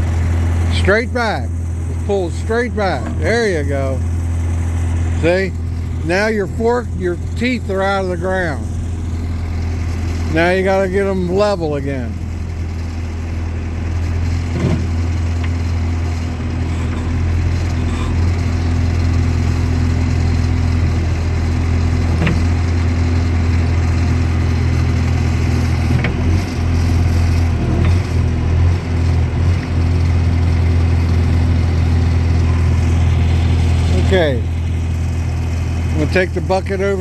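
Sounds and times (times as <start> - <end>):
skid steer engine running: 0.0 - 37.0.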